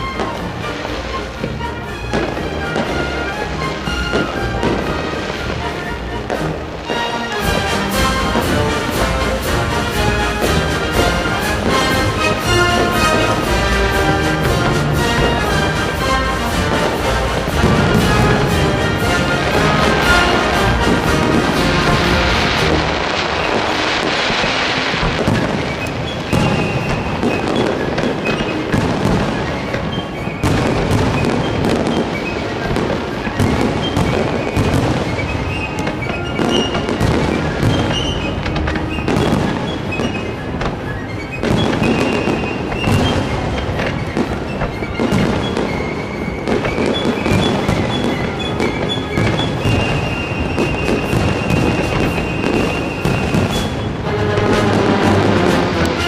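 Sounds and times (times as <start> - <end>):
fireworks bangs and crackles: 0.0 - 56.0
music playing: 0.0 - 56.0.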